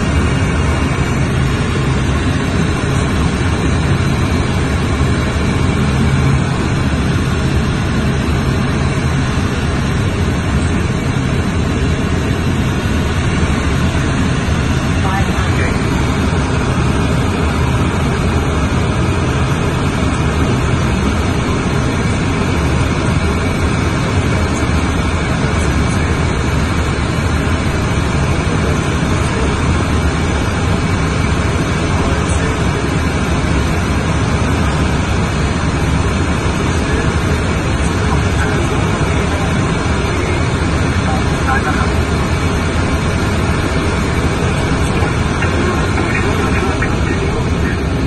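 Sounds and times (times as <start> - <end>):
jet cabin rushing noise: 0.0 - 48.0.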